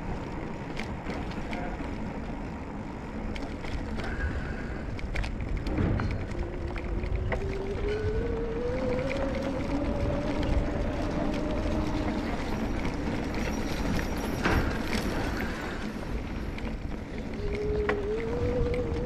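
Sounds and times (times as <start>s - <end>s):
bicycle rumble and wind: 0.0s - 19.0s.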